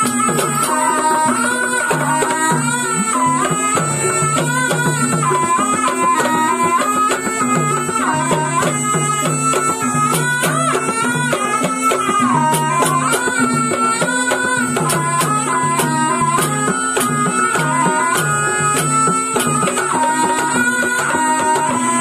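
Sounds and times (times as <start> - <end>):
busy percussion: 0.0 - 22.0
double-reed shawm melody: 0.0 - 22.0.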